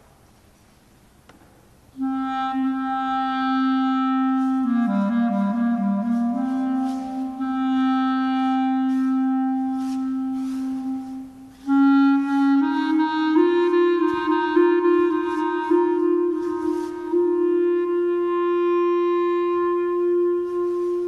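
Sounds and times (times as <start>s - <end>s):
solo clarinet improvising: 1.9s - 21.0s.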